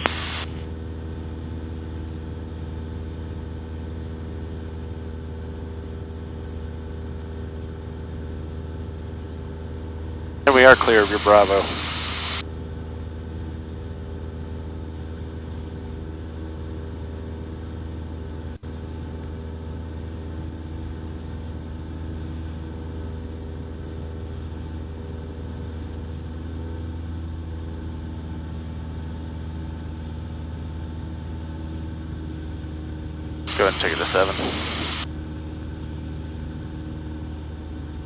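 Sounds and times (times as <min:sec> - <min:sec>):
airplane engine droning in cabin: 0:00.0 - 0:38.0.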